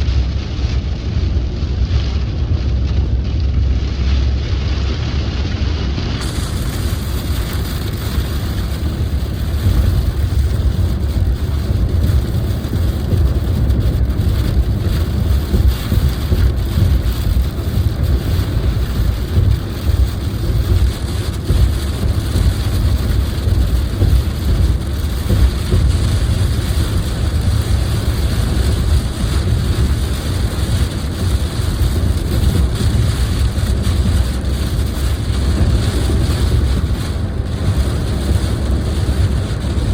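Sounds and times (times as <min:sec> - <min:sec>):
car road rumble from inside: 0:00.0 - 0:39.9
light rain on car: 0:00.0 - 0:39.9
wet tyres hissing: 0:06.2 - 0:39.9.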